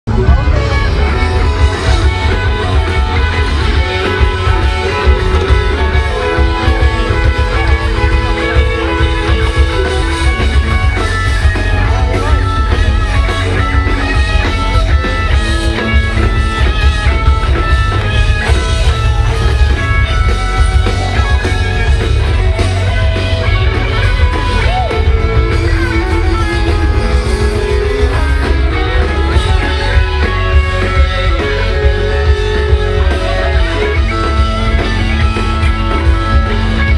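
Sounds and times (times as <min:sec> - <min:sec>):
booming bass: 0:00.1 - 0:36.9
live rock band playing: 0:00.1 - 0:36.9.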